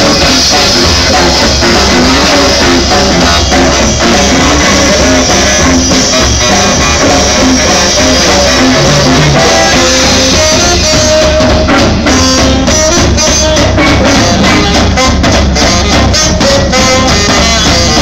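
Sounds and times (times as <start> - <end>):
drum kit: 0.0 - 18.0
saxophones: 0.0 - 18.0
swing jazz band playing: 0.0 - 18.0.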